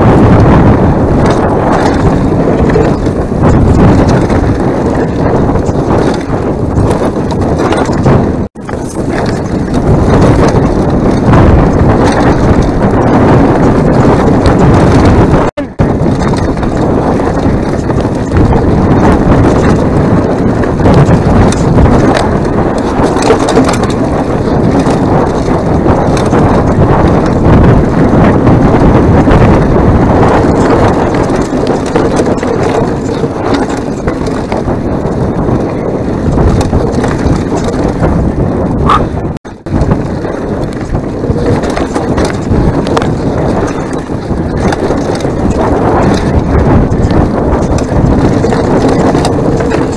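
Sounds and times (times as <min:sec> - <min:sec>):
wind rumble on microphone: 0:00.0 - 0:49.9
mountain bike rattling over stones: 0:00.8 - 0:14.4, 0:15.8 - 0:38.2, 0:39.7 - 0:49.9.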